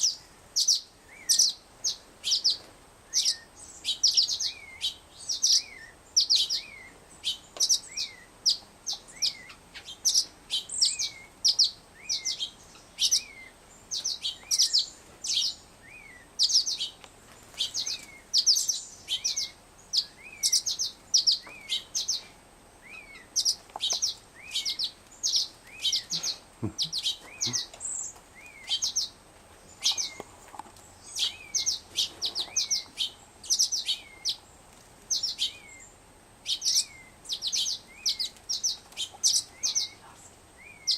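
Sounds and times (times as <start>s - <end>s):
fledgling birds begging calls: 0.0s - 40.9s.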